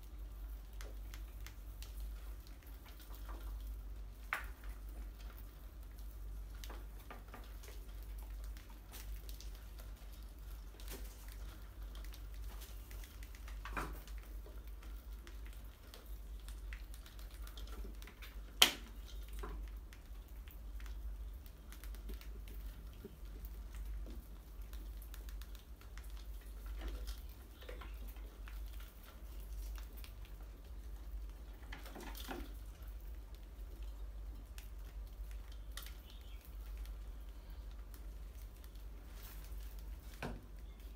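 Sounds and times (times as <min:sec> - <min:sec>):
low steady hum: 0:00.0 - 0:40.9
rodents scratching and clicking claws: 0:00.0 - 0:40.9.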